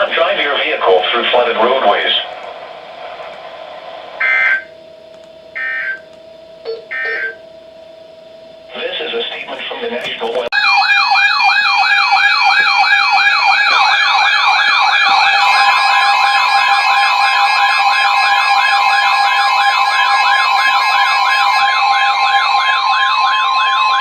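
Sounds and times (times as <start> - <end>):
steady warning alarm tone: 0.0 - 24.0
warbling siren alarm: 1.4 - 9.1, 10.5 - 24.0.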